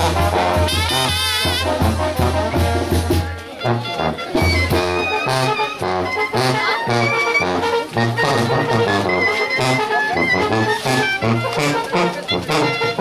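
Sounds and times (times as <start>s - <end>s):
brass band dance music: 0.0s - 13.0s.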